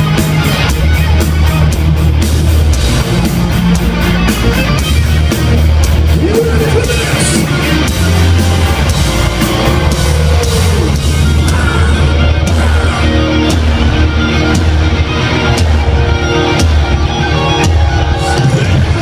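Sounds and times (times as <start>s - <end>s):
heavy metal band playing live: 0.0s - 19.0s.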